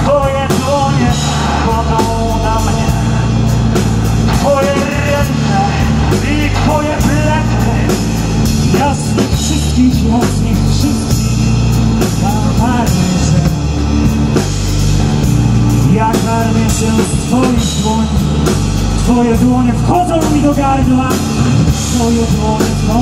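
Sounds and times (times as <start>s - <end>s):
bass guitar: 0.0s - 23.0s
drum kit beat: 0.0s - 23.0s
electric guitar: 0.0s - 23.0s.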